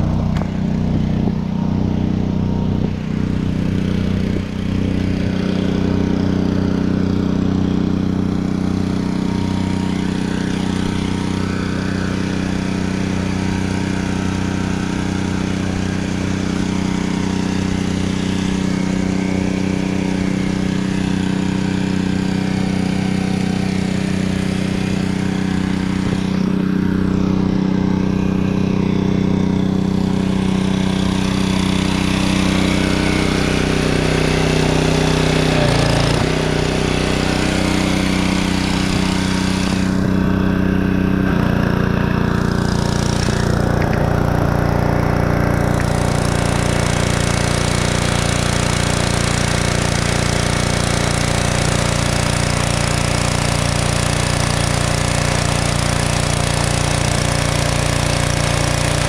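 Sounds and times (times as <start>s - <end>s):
pressure washer spraying: 3.0s - 59.0s.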